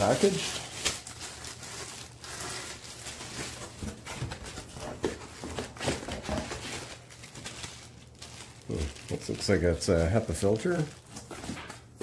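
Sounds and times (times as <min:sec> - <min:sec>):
plastic wrap rustling: 0:00.0 - 0:12.0.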